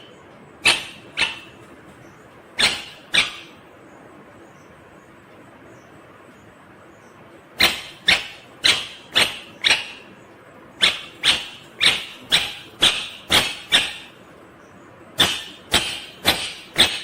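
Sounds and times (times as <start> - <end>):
parakeet calling: 0.0 - 6.0, 6.9 - 17.0.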